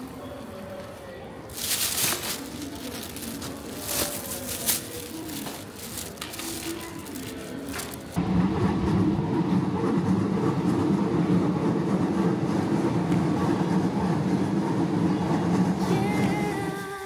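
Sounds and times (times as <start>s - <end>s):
train wheels rumbling on rails: 1.5s - 17.0s.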